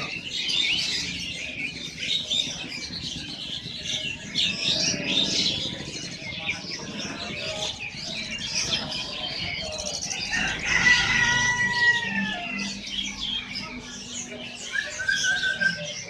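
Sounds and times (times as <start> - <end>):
caged birds chirping: 0.0 - 16.0.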